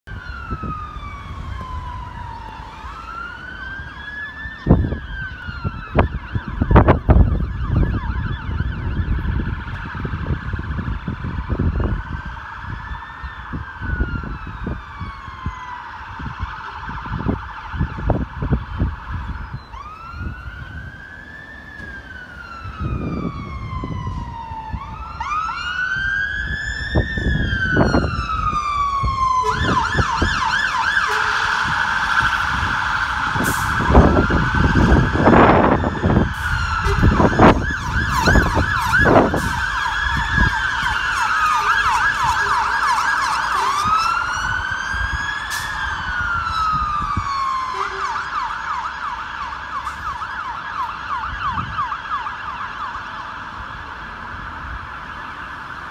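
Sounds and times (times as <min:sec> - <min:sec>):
fire engine sirens wailing and yelping: 0:00.0 - 0:55.9.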